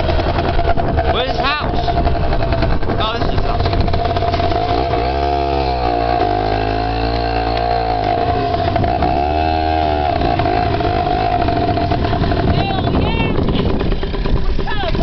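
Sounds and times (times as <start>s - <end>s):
dirt bike engine revving: 0.0s - 15.0s
high engine drone: 0.0s - 15.0s.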